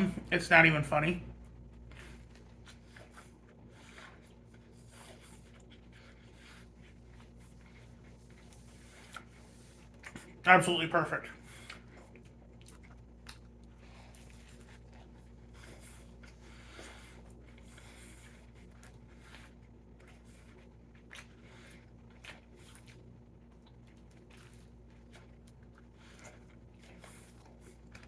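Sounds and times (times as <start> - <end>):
chewing a sandwich: 0.0 - 28.0
steady low hum: 0.0 - 28.0.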